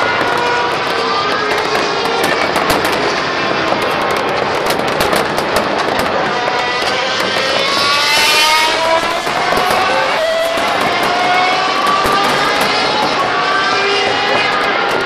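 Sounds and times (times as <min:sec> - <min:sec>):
fireworks bursting: 0:00.0 - 0:15.0
racing car engines whining: 0:00.0 - 0:15.0.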